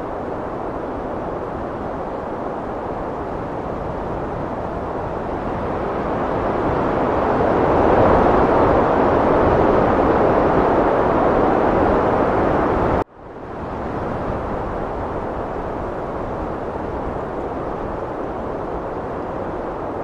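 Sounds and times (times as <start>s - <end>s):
heavy wind rushing: 0.0s - 20.0s.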